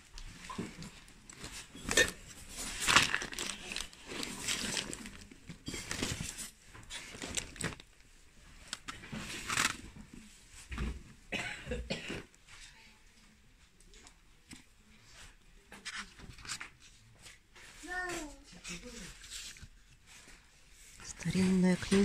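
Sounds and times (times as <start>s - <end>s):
cloth and plastic rustling: 0.0s - 11.2s, 12.3s - 22.0s.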